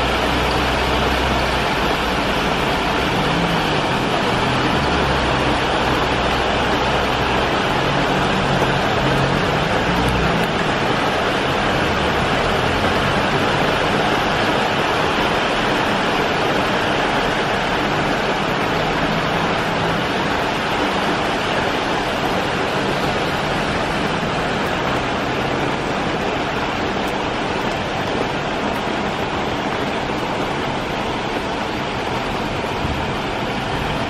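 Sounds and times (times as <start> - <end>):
heavy rain on street: 0.0 - 34.0.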